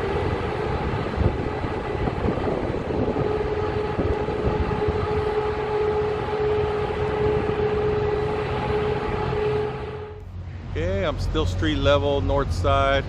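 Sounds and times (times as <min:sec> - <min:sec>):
machinery engine droning: 0:00.0 - 0:13.0.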